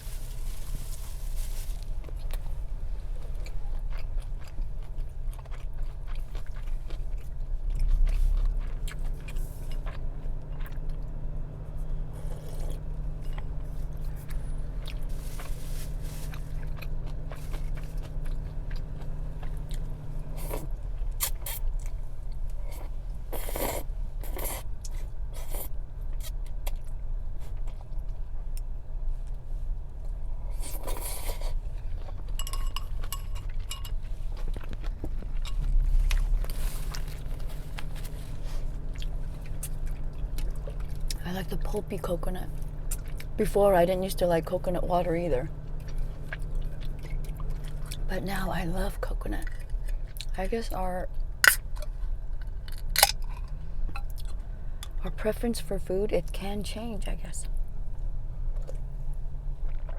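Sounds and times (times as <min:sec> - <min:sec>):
chewing and crunching food: 0:00.0 - 0:56.0, 0:56.6 - 0:59.9
steady low hum: 0:00.0 - 0:59.9.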